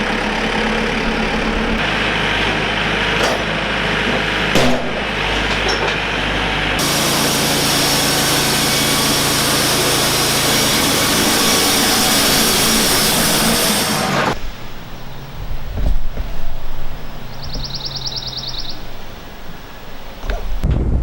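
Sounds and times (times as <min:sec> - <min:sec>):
sawmill engine running: 0:00.0 - 0:20.6.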